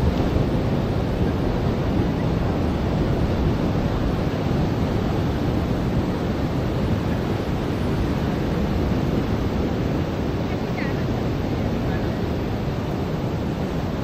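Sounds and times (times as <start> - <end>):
ocean surf on beach: 0.0 - 14.0
wind buffeting microphone: 0.0 - 14.0.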